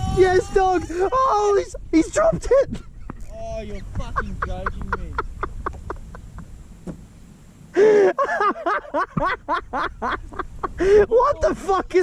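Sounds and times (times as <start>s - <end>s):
man laughing or outburst: 0.2s - 6.2s, 7.8s - 12.0s.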